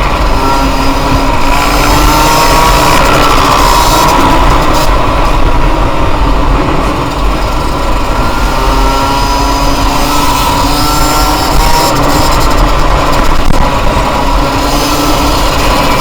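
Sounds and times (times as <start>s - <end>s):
dirt bike engine revving: 0.0s - 16.0s
wind rumble on microphone: 0.0s - 16.0s.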